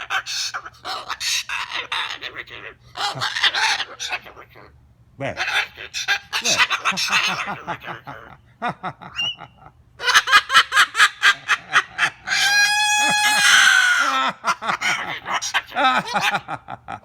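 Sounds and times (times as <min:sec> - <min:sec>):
talking bird cackling calls: 0:00.0 - 0:04.8, 0:05.4 - 0:16.7.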